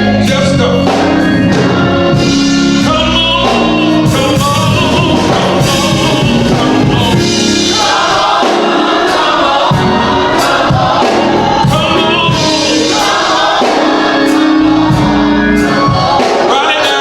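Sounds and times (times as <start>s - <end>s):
choir singing gospel: 0.0s - 17.0s
instrumental accompaniment with beat: 0.0s - 17.0s.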